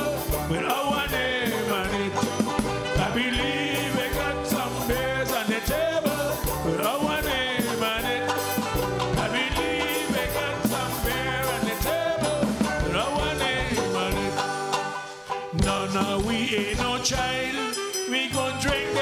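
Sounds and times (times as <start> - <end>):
live band playing dance tune: 0.0 - 19.0.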